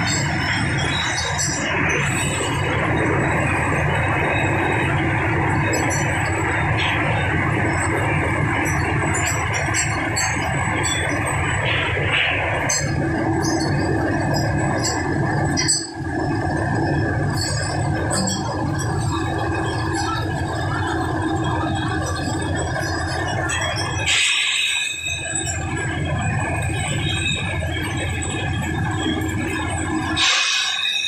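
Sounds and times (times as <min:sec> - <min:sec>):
conveyor machinery whine: 0:00.0 - 0:31.0
mechanical hum: 0:00.0 - 0:31.0.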